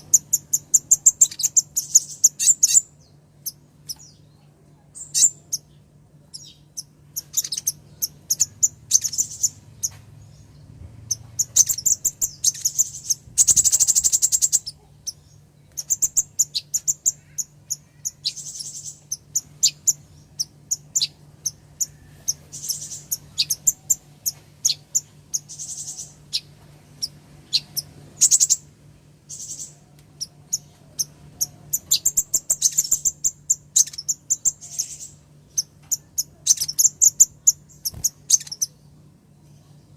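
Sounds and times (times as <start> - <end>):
bird trill: 0.0 - 28.7, 29.3 - 38.8
sunbird chips and twittering: 0.0 - 28.7, 29.3 - 39.9
faint low hum: 0.0 - 39.9.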